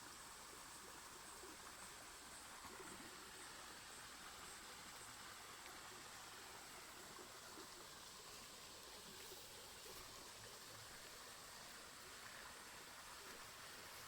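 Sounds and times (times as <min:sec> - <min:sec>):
faint running water: 0:00.0 - 0:14.0.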